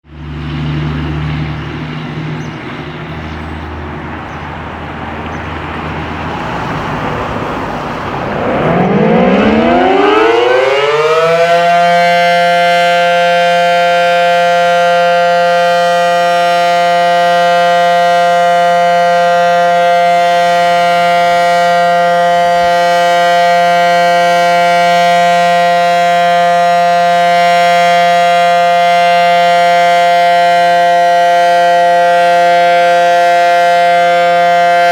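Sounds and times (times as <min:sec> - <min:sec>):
two-tone tornado siren: 0:00.0 - 0:34.9.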